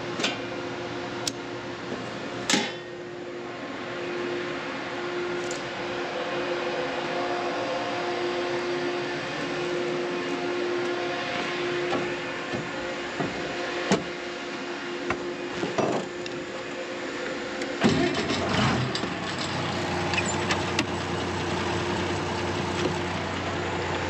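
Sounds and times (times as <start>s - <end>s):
farm machinery humming: 0.0s - 24.0s.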